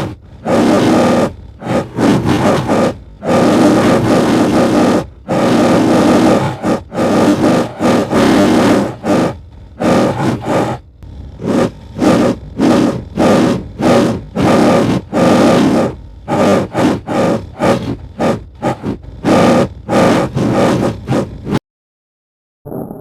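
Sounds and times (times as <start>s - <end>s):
dinosaur rough calls: 0.0s - 21.6s.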